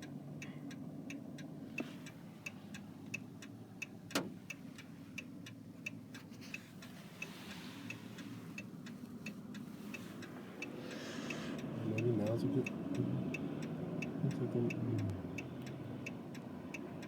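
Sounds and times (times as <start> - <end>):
turn signal ticking: 0.0 - 17.0
car cabin hum: 0.9 - 13.2, 13.8 - 16.7.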